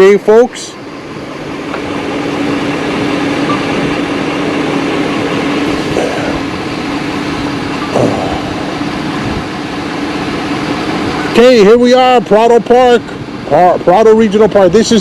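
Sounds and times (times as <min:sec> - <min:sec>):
constant rushing noise: 0:00.0 - 0:15.0
truck engine humming: 0:00.4 - 0:15.0.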